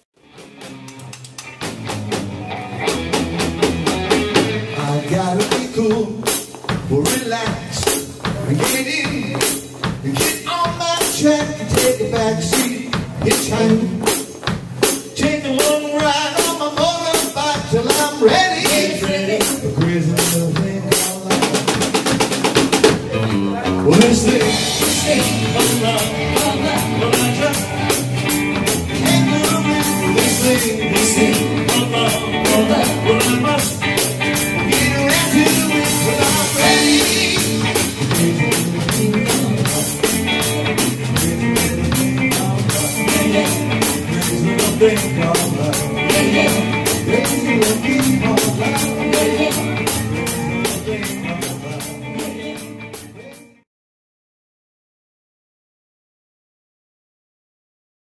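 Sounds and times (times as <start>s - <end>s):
bass guitar: 0.0s - 53.6s
drum kit with cymbal strokes: 0.2s - 53.5s
electric guitar: 0.2s - 53.6s
man singing: 4.4s - 22.1s, 22.9s - 53.6s.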